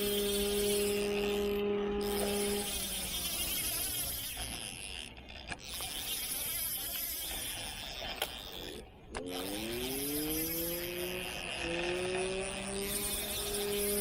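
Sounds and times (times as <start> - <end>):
fishing reel drag buzzing: 0.0 - 14.0
light reel clicks: 0.0 - 14.0.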